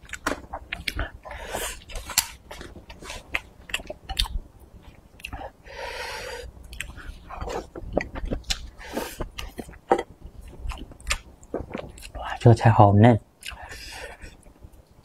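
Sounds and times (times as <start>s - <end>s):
wet chewing and lip-smacking: 0.0s - 1.2s, 1.8s - 5.5s, 6.6s - 12.2s, 13.4s - 15.0s.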